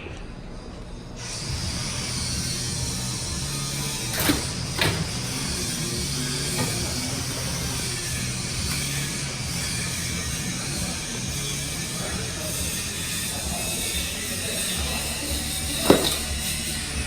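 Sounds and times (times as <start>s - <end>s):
steady mechanical hum and hiss: 0.0s - 17.0s.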